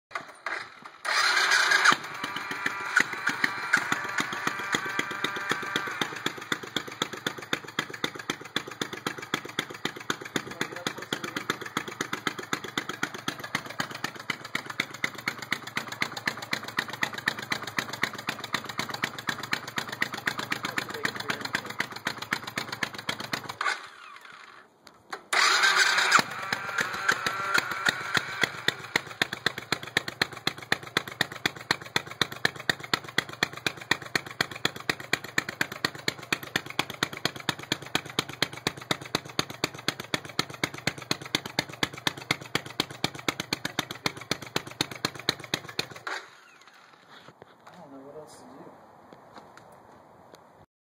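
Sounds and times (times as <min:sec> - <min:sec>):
motorcycle engine running: 0:00.1 - 0:24.6, 0:25.4 - 0:47.3.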